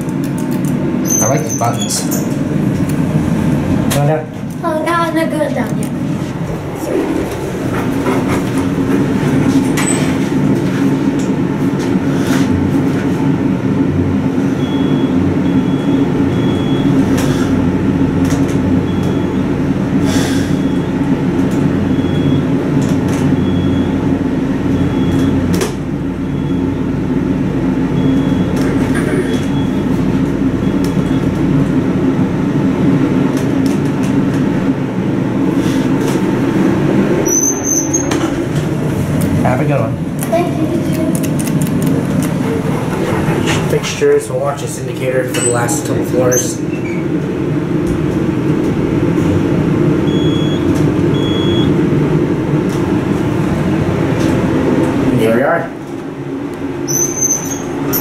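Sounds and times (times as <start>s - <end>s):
elevator humming and rumbling: 0.0s - 58.0s.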